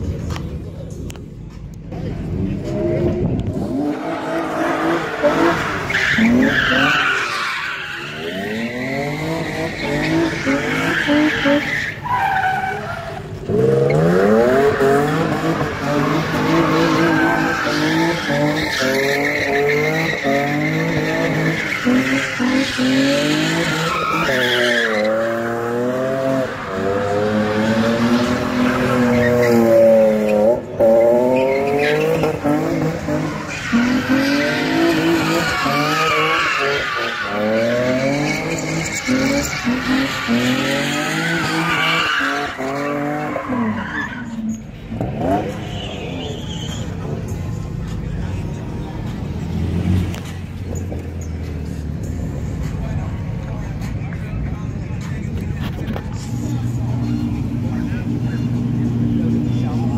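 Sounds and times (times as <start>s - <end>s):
tyres squealing on asphalt: 3.6s - 59.9s.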